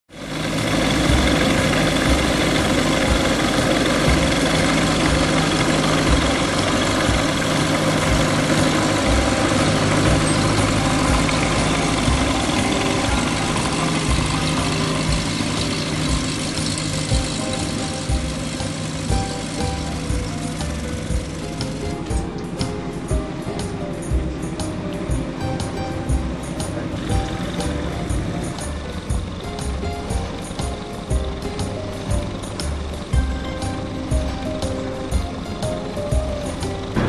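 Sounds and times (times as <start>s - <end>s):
aircraft engine and propeller humming: 0.1s - 37.0s.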